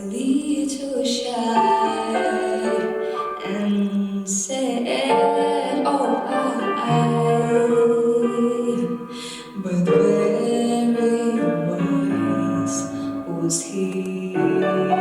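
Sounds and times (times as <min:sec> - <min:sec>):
woman singing long notes: 0:00.0 - 0:15.0
instrumental accompaniment: 0:01.4 - 0:15.0.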